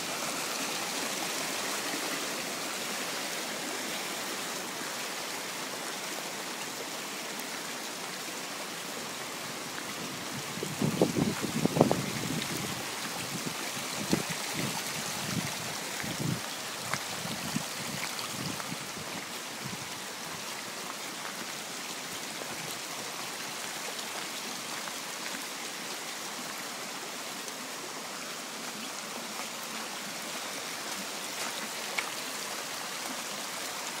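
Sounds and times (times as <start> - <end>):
water rushing and splashing: 0.0 - 34.0.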